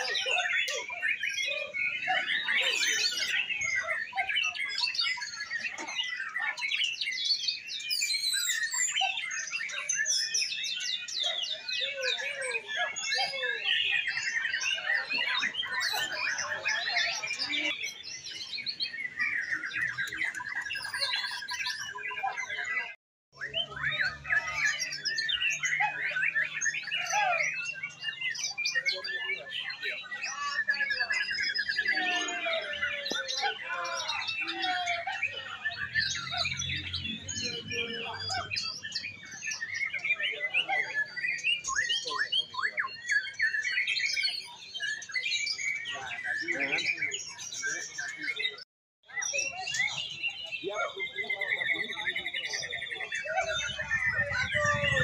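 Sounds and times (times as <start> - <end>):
songbirds chorus: 0.0 - 55.0.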